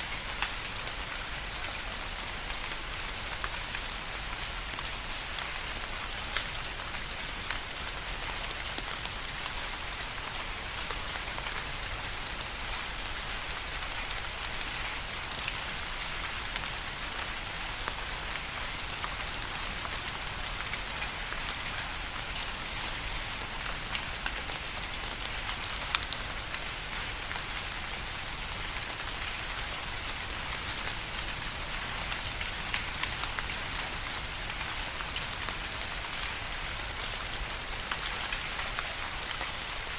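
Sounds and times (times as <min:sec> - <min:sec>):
steady rain hissing: 0:00.0 - 0:39.9
raindrops ticking on a surface: 0:00.1 - 0:39.9.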